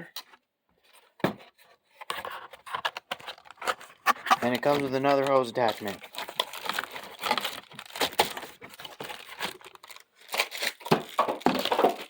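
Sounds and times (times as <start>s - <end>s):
packaging crinkling and rustling: 1.9s - 12.0s.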